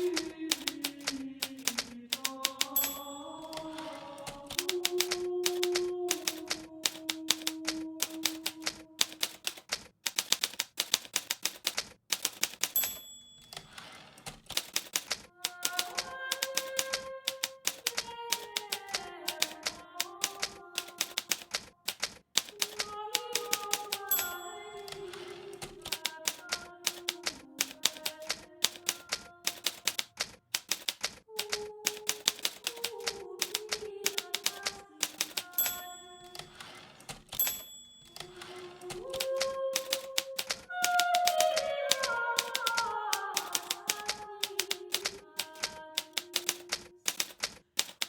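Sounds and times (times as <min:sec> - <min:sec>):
typewriter bell ding: 0:00.0 - 0:21.5, 0:22.4 - 0:48.0
typewriter key strikes: 0:00.0 - 0:48.0.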